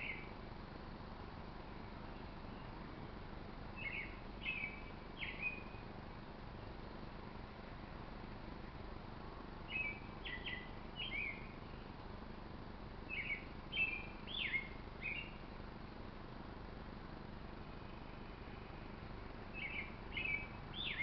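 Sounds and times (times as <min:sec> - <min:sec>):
small birds chirping: 0:00.0 - 0:00.4, 0:01.6 - 0:06.3, 0:07.6 - 0:21.0
steady background hiss: 0:00.0 - 0:21.0.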